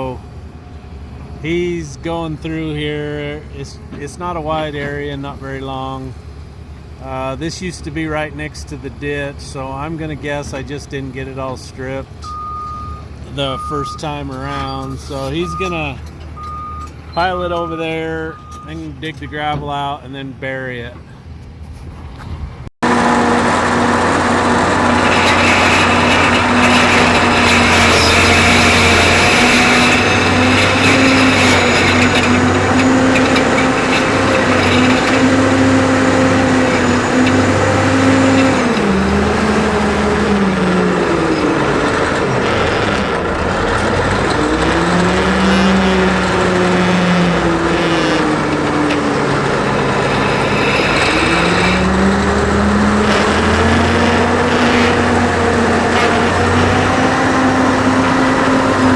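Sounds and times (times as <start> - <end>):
diesel engine working hard: 0.0 - 20.5, 21.1 - 58.9.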